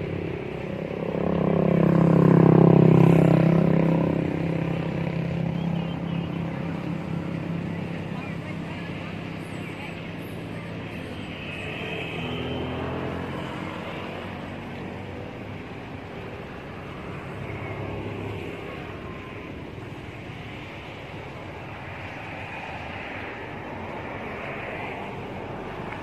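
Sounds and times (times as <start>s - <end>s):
outdoor noise: 0.0s - 26.0s
vehicle engine humming: 0.0s - 26.0s.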